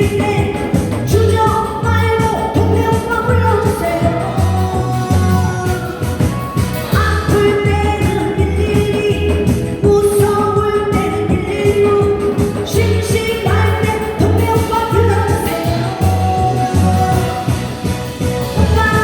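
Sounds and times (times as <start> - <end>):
person singing: 0.0 - 19.0
pop backing track: 0.0 - 19.0.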